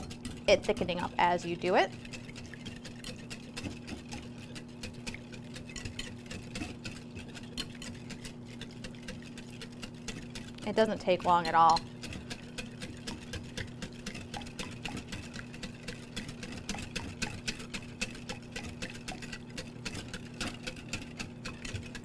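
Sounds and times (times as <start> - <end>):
whisk clicking against glass bowl: 0.0 - 22.0.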